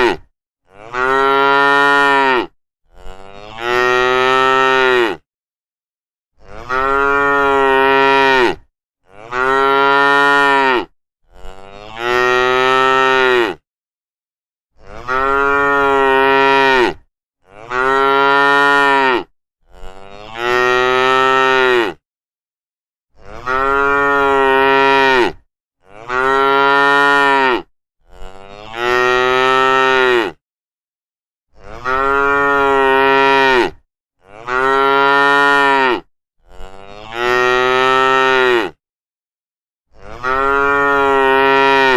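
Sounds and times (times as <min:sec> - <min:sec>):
cattle mooing: 0:00.0 - 0:05.2, 0:06.4 - 0:13.6, 0:14.8 - 0:22.0, 0:23.2 - 0:30.4, 0:31.6 - 0:38.8, 0:40.0 - 0:41.9.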